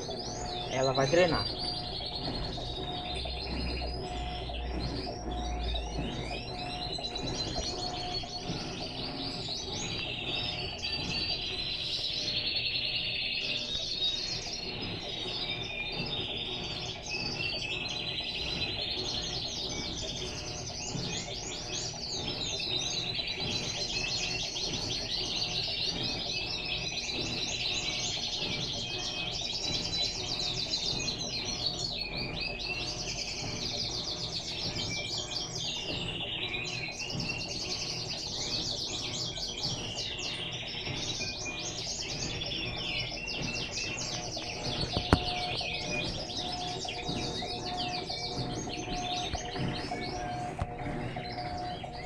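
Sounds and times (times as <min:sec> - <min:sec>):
small birds chirping: 0:00.0 - 0:52.0
washing machine humming: 0:00.0 - 0:52.0.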